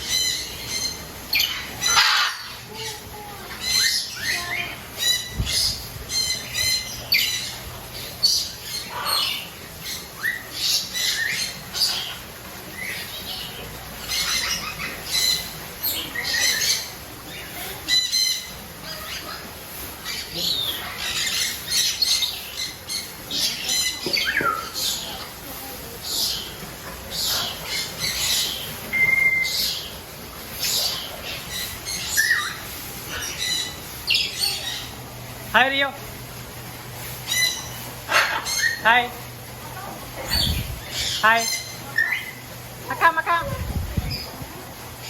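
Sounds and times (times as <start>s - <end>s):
birds squawking harshly: 0.0s - 44.8s.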